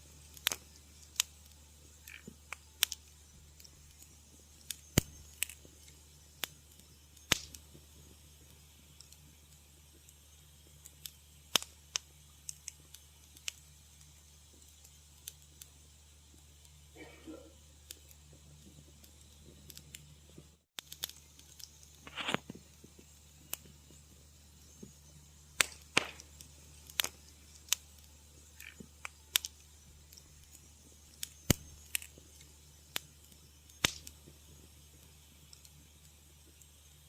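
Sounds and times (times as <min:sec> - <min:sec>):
fire hissing flare: 0:00.0 - 0:37.0
wood fire crackling: 0:00.0 - 0:37.0.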